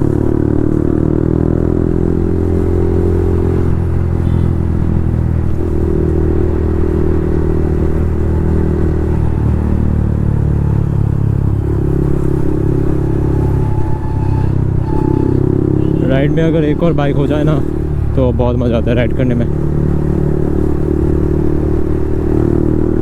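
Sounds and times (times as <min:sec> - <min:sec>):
motorcycle engine with loud exhaust: 0:00.0 - 0:23.0.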